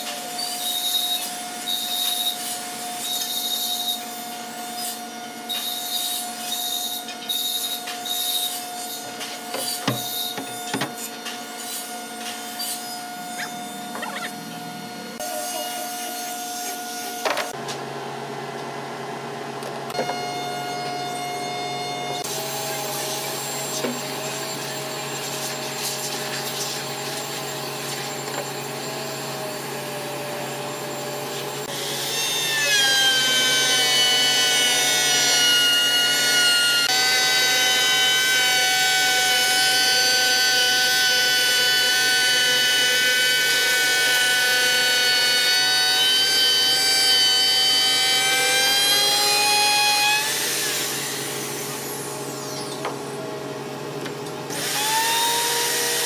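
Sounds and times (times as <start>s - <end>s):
electric router whining: 0.0s - 25.8s, 26.4s - 56.0s.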